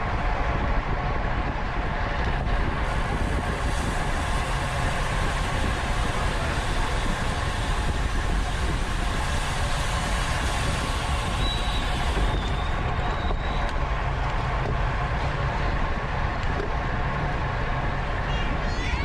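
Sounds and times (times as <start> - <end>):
hum of tyres and drivetrain: 0.0 - 19.0
wind rushing over microphone: 0.0 - 19.0.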